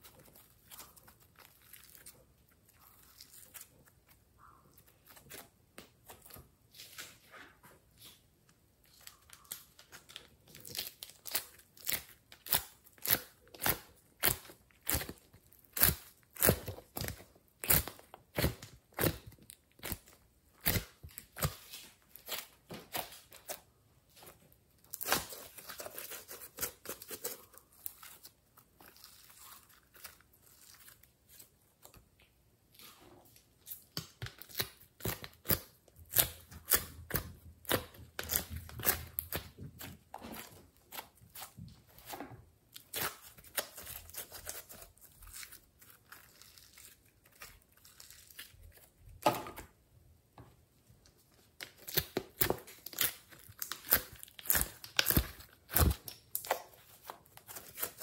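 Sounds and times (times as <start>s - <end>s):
slime squishing: 0.0s - 7.3s, 8.8s - 49.2s, 51.4s - 58.0s.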